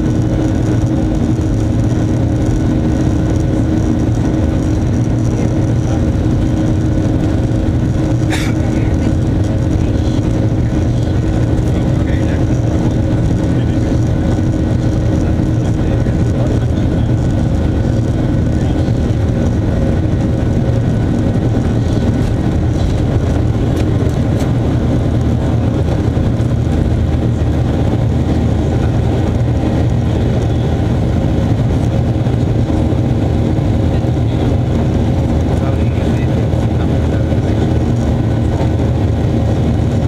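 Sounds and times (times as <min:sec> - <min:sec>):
jet engines rumbling in cabin: 0:00.0 - 0:40.0.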